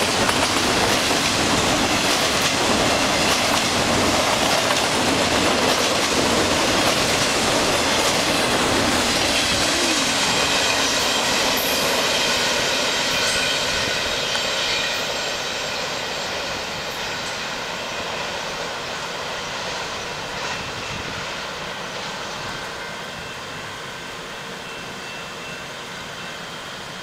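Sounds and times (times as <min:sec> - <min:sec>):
freight train wheels on rails: 0:00.0 - 0:27.0.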